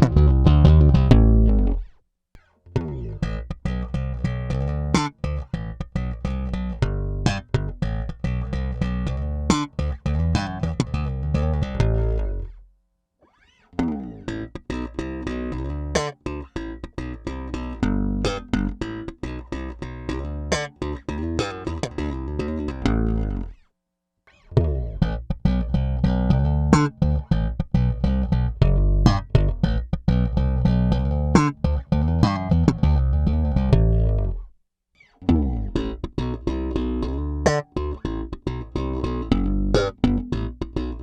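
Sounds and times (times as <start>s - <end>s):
slap bass guitar: 0.0s - 12.7s, 13.8s - 23.6s, 24.3s - 34.6s, 35.2s - 41.0s.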